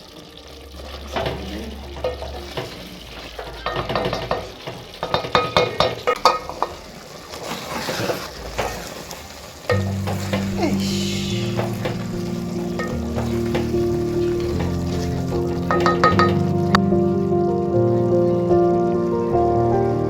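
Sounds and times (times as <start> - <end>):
food frying in a pot: 0.0 - 20.0.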